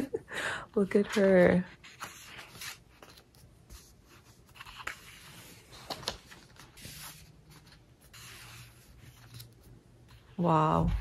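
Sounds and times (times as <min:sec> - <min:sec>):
paper rustling: 0:01.0 - 0:10.3.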